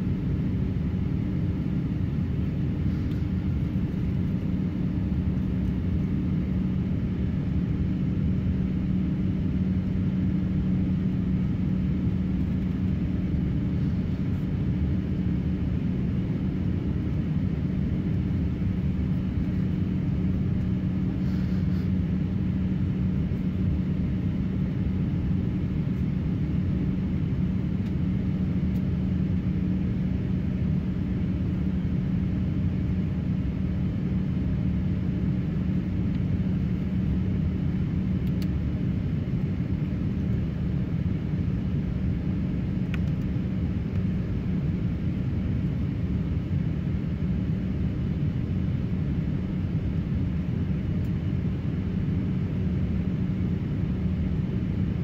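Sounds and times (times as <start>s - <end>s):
airplane cabin drone: 0.0s - 55.0s
steady hum: 0.0s - 55.0s.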